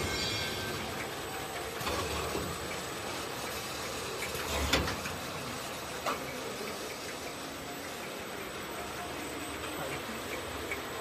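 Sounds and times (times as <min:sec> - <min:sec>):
filling machine humming: 0:00.0 - 0:11.0.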